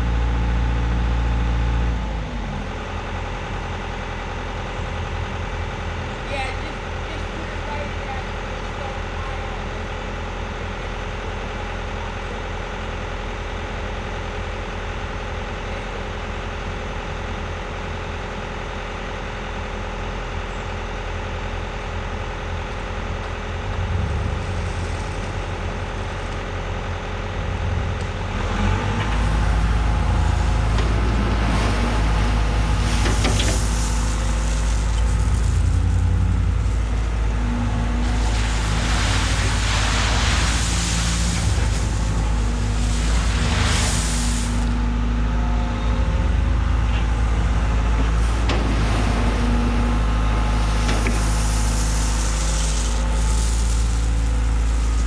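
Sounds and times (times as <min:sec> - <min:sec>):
diesel engine running and revving: 0:00.0 - 0:55.0.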